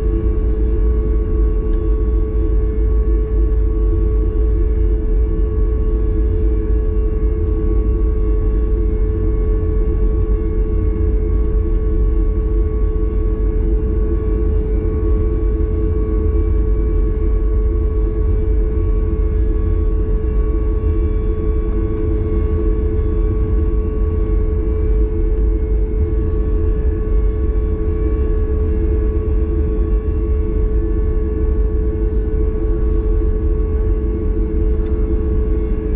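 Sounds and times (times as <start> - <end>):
airliner cabin engine drone: 0.0 - 35.9.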